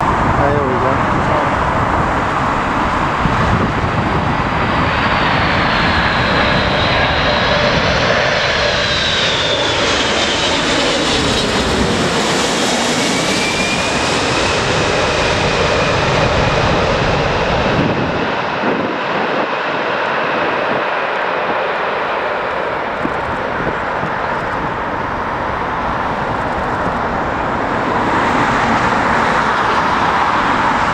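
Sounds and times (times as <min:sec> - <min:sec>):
wind rumble on microphone: 0:00.0 - 0:08.3, 0:13.8 - 0:30.9
jet engines passing overhead: 0:00.0 - 0:30.9.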